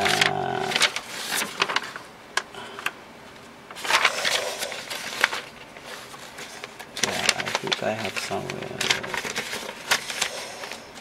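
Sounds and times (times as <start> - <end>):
paper sheets rustling: 0.0 - 11.0.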